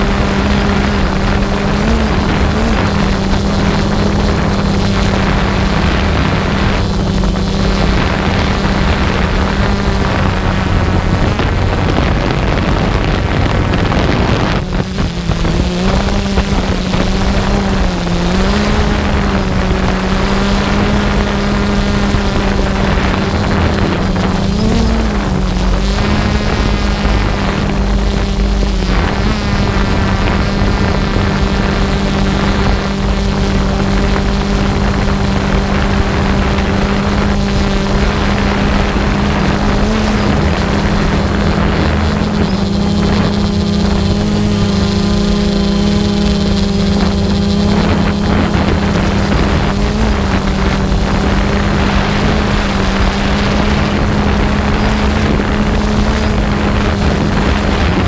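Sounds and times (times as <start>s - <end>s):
buzzing tone: 0.0s - 58.0s
propeller aircraft engine droning: 0.0s - 58.0s
wind rushing over microphone: 0.0s - 58.0s.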